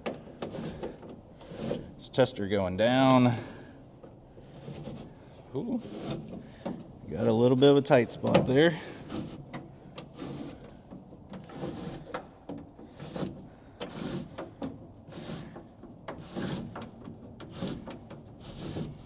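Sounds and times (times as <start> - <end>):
window glass scraping rubber seal: 0.0 - 2.2, 4.3 - 7.4, 8.2 - 19.0.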